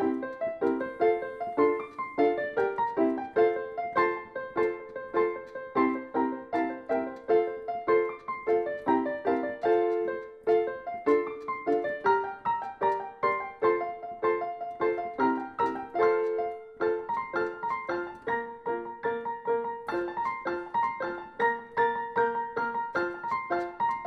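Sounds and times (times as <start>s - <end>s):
piano melody: 0.0s - 24.0s.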